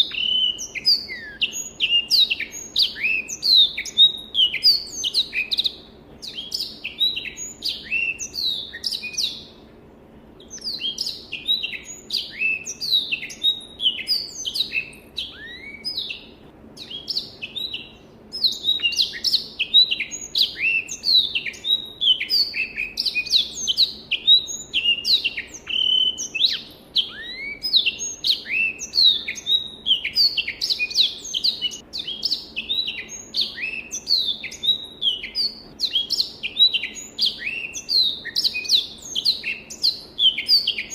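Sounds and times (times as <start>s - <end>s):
canary singing: 0.0s - 9.6s, 10.3s - 40.9s.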